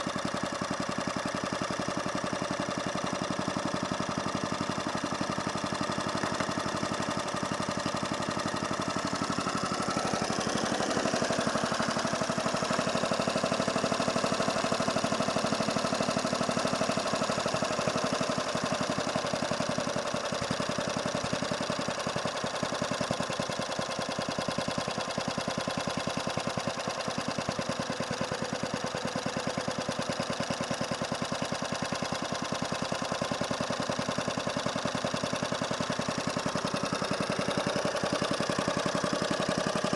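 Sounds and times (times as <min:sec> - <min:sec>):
mower petrol engine running: 0:00.0 - 0:39.9.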